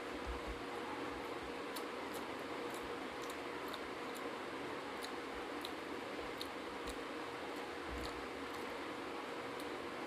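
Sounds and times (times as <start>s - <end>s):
fingers mixing food on steel plate: 0.0s - 10.0s
wet chewing clicks: 1.2s - 9.8s.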